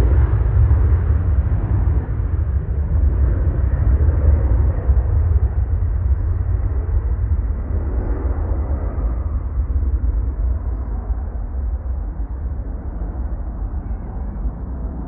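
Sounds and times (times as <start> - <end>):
jet engines deep rumble: 0.0 - 15.0.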